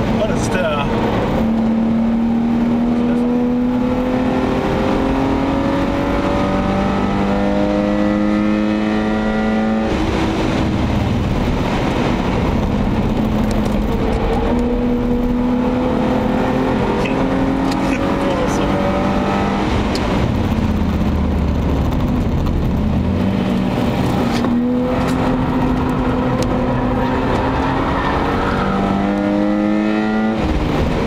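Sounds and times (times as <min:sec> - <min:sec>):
car engine accelerating: 0:00.0 - 0:31.0
road and wind noise: 0:00.0 - 0:31.0.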